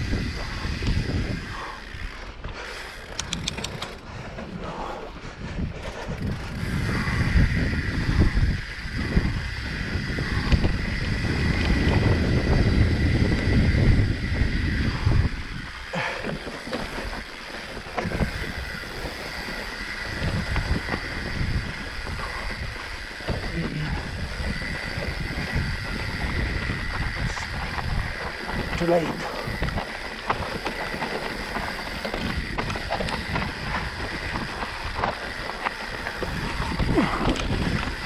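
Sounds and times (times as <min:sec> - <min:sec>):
bike clicks and rattles: 0:00.0 - 0:38.0
bike tyre noise: 0:00.0 - 0:38.0
wind rumbling on microphone: 0:00.0 - 0:38.0.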